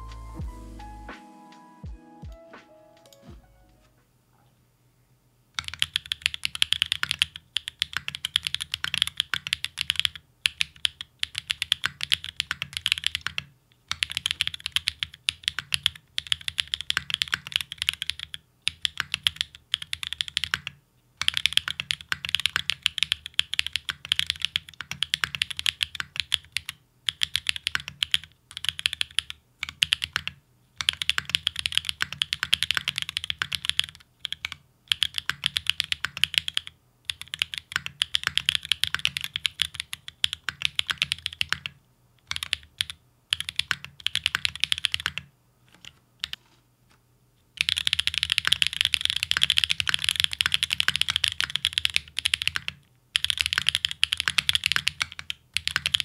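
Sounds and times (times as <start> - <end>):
fast mechanical keyboard typing: 5.6 - 46.4, 47.6 - 56.0.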